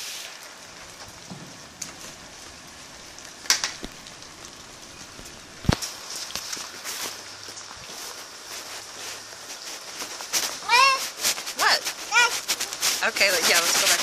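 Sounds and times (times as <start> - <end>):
rain on wet concrete: 0.0 - 14.0.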